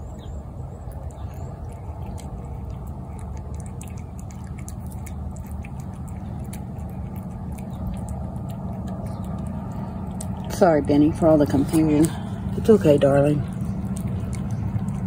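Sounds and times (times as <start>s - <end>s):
cat chewing wet food: 0.0s - 15.0s
steady low rumble: 0.0s - 15.0s.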